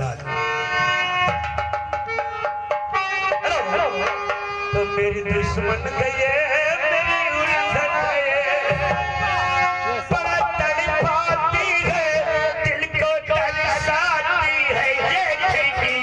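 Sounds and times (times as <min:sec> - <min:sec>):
held notes and drum beats: 0:00.0 - 0:16.0.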